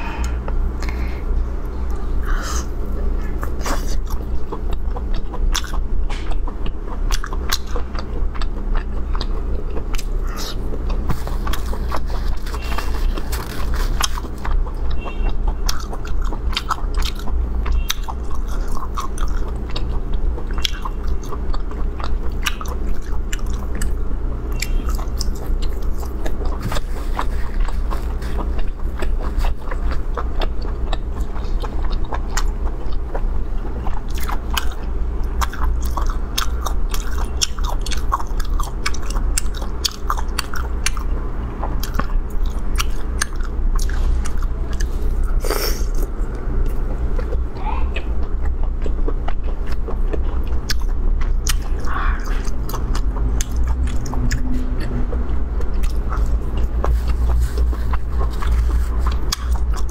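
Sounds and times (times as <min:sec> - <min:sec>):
steady low hum: 0:00.0 - 0:59.9
wet crisp chewing: 0:01.7 - 0:59.9.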